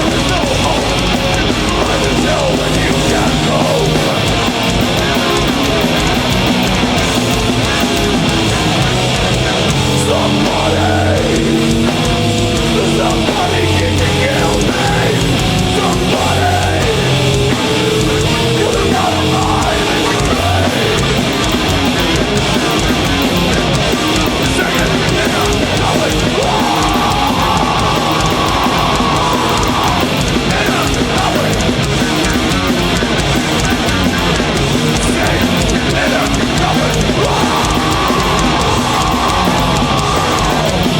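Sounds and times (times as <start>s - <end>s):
heavy metal band playing live: 0.0s - 40.9s.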